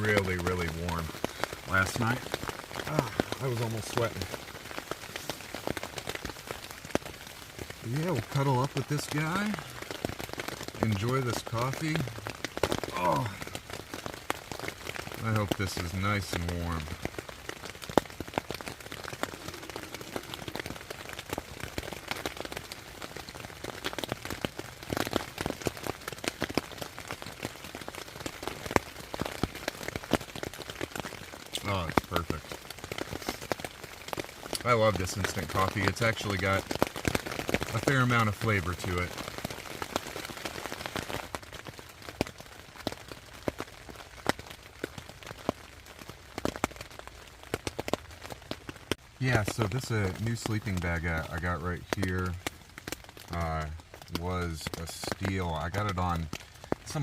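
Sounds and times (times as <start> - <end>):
rain pattering on a tent: 0.0 - 57.0.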